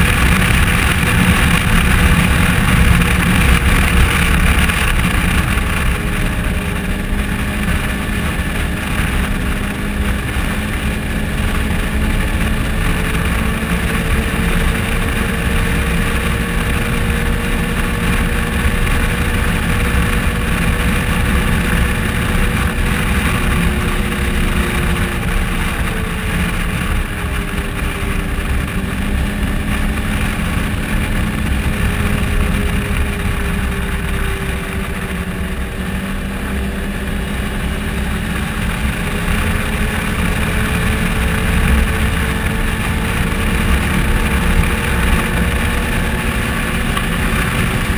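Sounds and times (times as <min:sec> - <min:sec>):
engine drone: 0:00.0 - 0:47.9
road rumble: 0:00.0 - 0:47.9
wind: 0:00.0 - 0:47.9.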